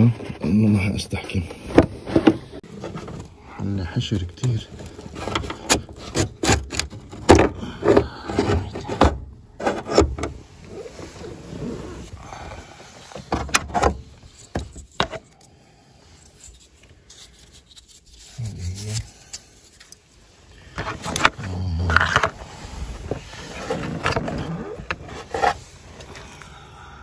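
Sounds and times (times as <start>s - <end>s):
rubbing and scraping: 0.0s - 26.2s.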